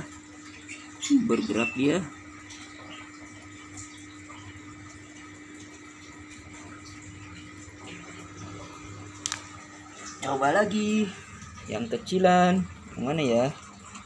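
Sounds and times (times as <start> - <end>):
aquarium filter pump humming: 0.0 - 14.0
water trickling: 0.0 - 14.0.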